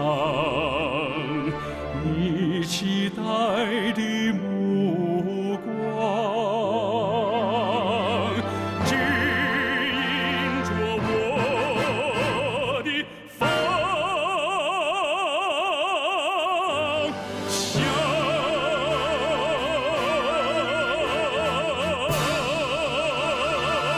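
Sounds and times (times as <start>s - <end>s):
musical accompaniment: 0.0s - 23.9s
operatic singing with vibrato: 0.0s - 23.9s.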